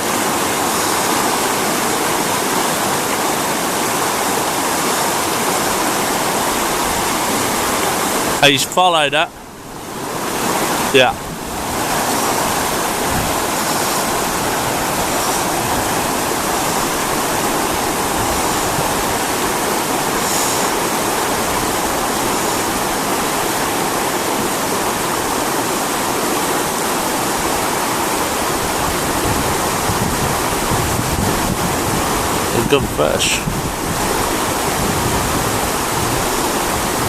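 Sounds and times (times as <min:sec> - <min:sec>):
river water flowing over stones: 0:00.0 - 0:37.0.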